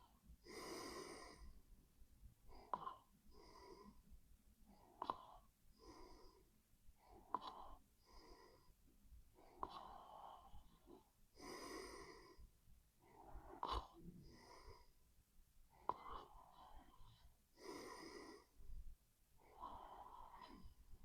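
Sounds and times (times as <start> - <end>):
sleeping person breathing: 0.0 - 1.7, 2.4 - 4.1, 4.7 - 15.0, 15.7 - 21.0.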